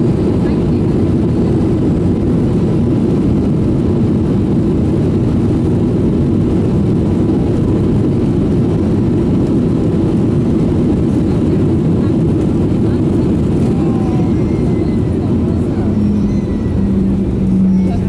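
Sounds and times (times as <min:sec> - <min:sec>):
aircraft cabin low rumble: 0:00.0 - 0:18.0.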